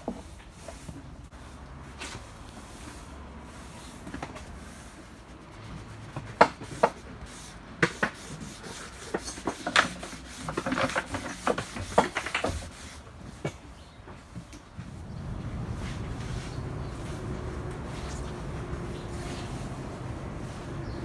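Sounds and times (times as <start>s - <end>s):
rubbing on wooden planks: 0.0s - 21.0s.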